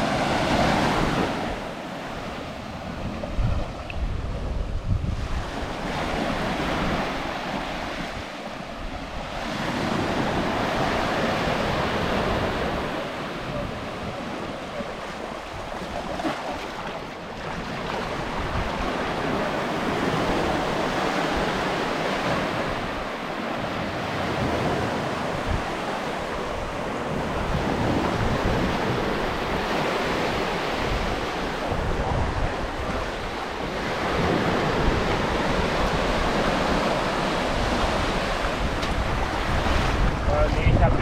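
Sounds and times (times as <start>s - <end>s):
waves breaking on shore: 0.0s - 41.0s
wind buffeting microphone: 0.0s - 41.0s.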